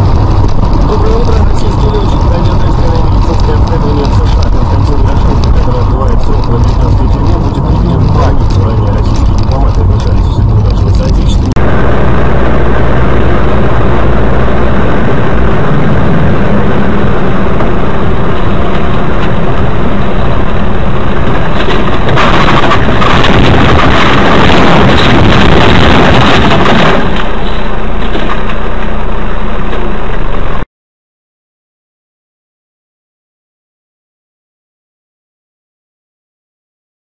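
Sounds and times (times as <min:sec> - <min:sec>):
vehicle engine and road noise: 0:00.0 - 0:30.6.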